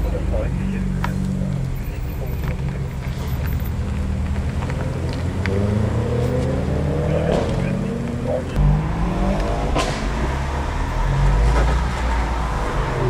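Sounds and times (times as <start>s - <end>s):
car engines running at low revs: 0.0s - 13.0s.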